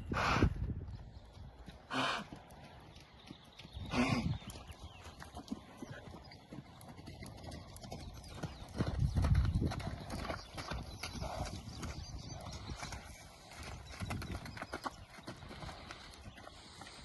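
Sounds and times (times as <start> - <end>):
horse hoofbeats clip-clopping: 0.6 - 17.0.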